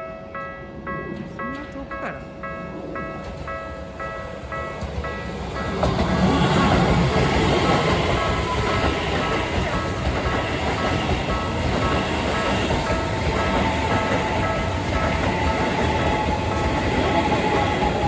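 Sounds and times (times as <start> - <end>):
railroad crossing alarm ringing: 0.0 - 18.0
train rumbling past: 0.0 - 18.0.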